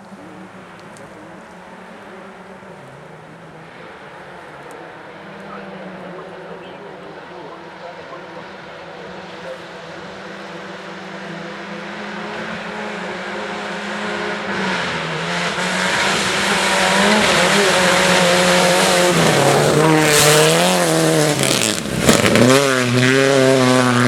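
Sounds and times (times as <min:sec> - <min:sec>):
racing car engine revving: 0:00.0 - 0:24.0.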